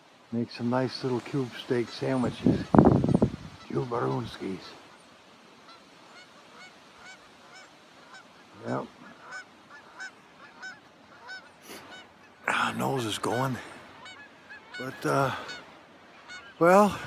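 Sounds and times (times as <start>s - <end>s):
geese honking: 1.0s - 17.0s.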